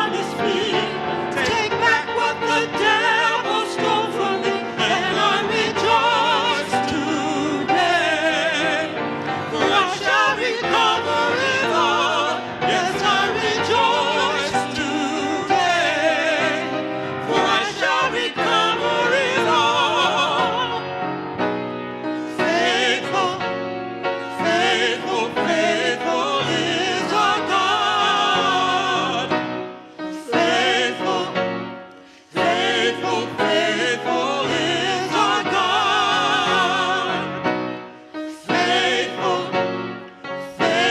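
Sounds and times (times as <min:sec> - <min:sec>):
operatic singing: 0:00.0 - 0:21.4, 0:22.2 - 0:40.9.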